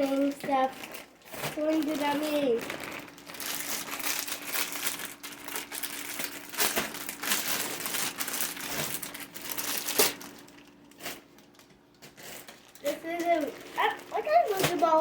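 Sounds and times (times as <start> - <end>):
faint steady hum: 0.0 - 15.0
packaging crinkling and tearing: 0.0 - 15.0.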